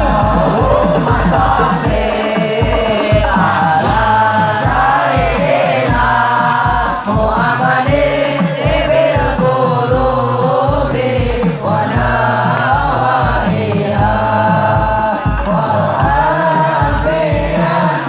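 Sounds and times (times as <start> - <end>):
low drum beat: 0.0 - 18.0
person singing: 0.0 - 18.0.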